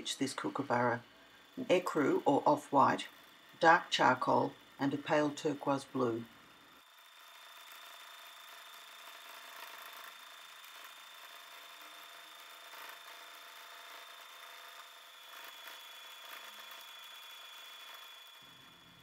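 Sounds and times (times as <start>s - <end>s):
sewing machine whirring: 0.0s - 19.0s.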